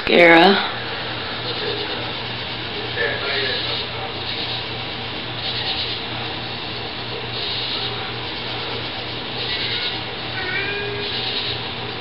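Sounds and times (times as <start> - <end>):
low electrical hum: 0.0 - 12.0
steady hiss: 0.1 - 12.0.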